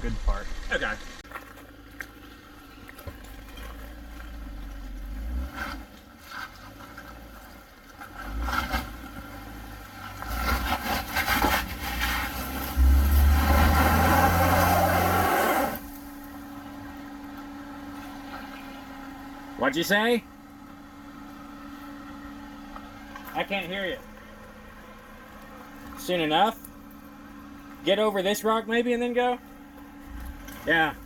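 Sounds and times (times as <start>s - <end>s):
off-road vehicle engine revving: 0.8s - 31.0s.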